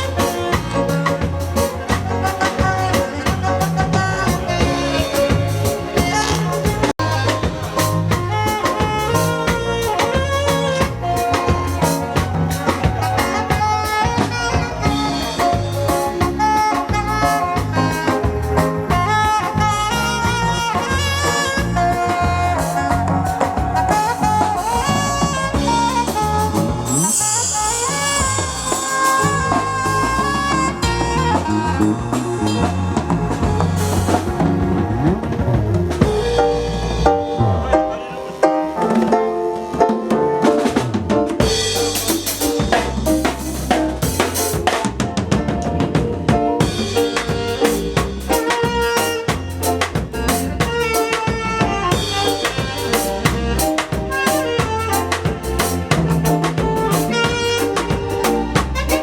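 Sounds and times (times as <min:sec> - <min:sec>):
live band playing: 0:00.0 - 0:59.0
steady drum beat: 0:00.0 - 0:59.0.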